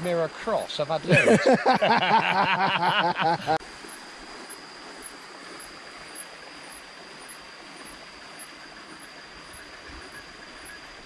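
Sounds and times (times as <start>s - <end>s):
faint high-pitched whine: 0.0s - 11.0s
outdoor background noise: 0.0s - 11.0s.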